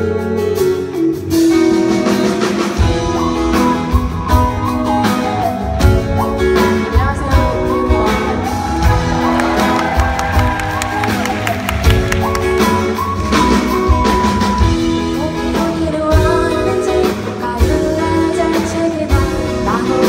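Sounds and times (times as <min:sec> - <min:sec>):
guitar: 0:00.0 - 0:20.0
live band playing indie pop: 0:00.0 - 0:20.0.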